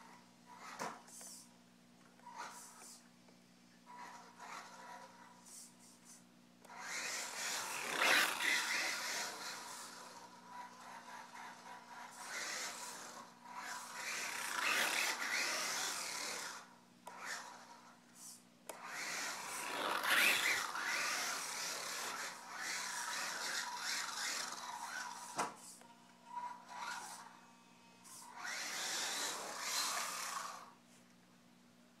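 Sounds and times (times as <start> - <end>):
toy truck motor and gears whining: 0.0 - 1.4, 2.2 - 3.0, 3.9 - 30.8.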